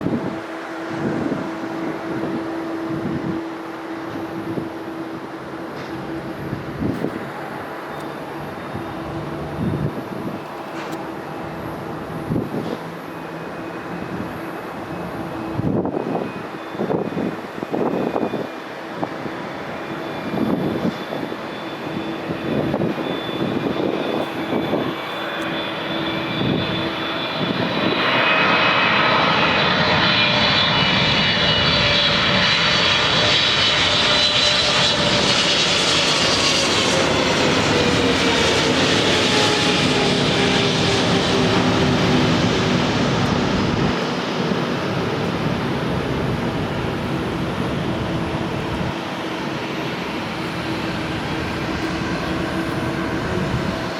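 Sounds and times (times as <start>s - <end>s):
wind buffeting microphone: 0.0s - 5.3s, 5.9s - 13.0s, 13.8s - 53.9s
jet engines whining: 0.0s - 53.9s.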